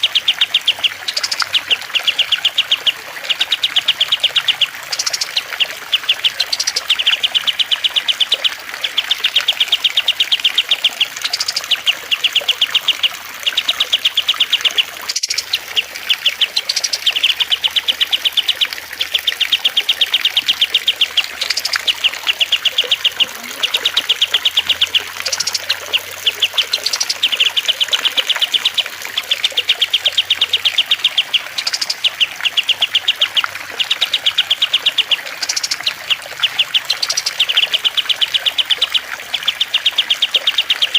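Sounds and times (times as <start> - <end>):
songbird trilling: 0.0 - 40.9
trickling water hiss: 0.0 - 40.9.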